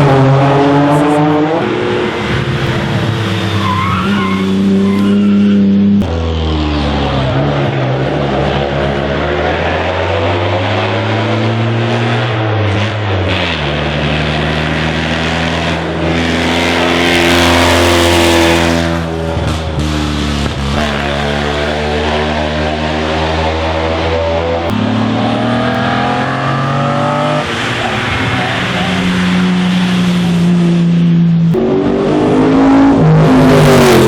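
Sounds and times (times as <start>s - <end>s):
racing car engine accelerating: 0.0s - 34.0s.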